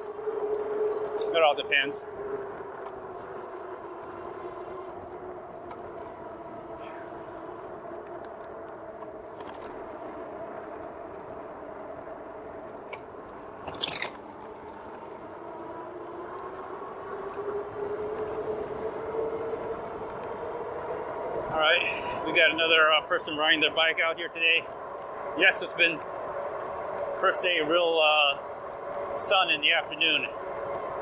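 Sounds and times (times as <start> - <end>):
electric bike motor and tires humming: 0.0 - 31.0.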